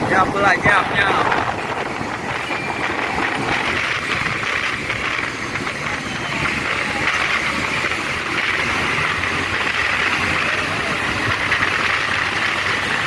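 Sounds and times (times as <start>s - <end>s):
traffic hiss: 0.0s - 13.0s
vehicle engines running: 0.0s - 13.0s.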